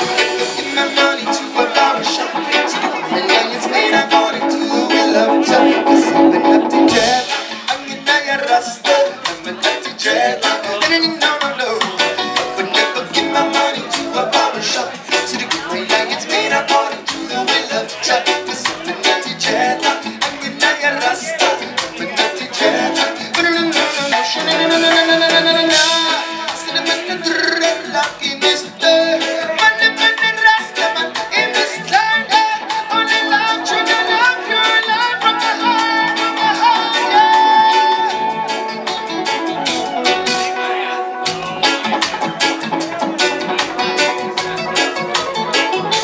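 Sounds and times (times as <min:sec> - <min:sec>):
drums: 0:00.0 - 0:46.0
electric guitar: 0:00.0 - 0:46.0
live reggae band: 0:00.0 - 0:46.0
person singing: 0:00.0 - 0:46.0.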